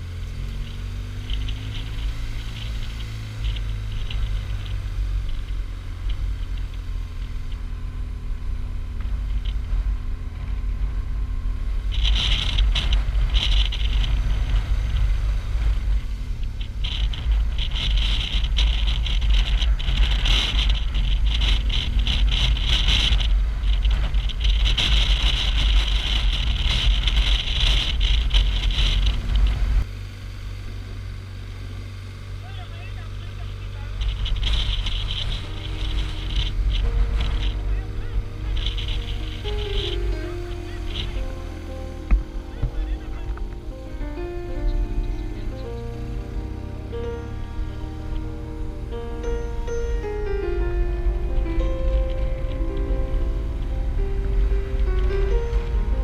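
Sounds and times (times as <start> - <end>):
wind noise: 0.0 - 32.4, 33.3 - 56.0
motorcycle engine rumble: 0.0 - 56.0.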